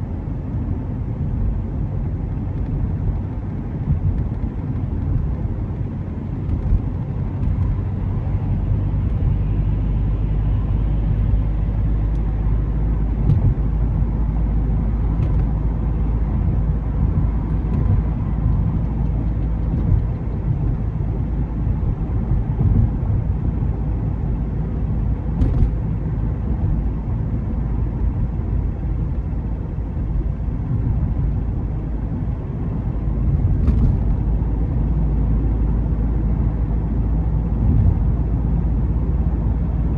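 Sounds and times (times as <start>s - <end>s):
car driving engine and tyres: 0.0s - 39.9s.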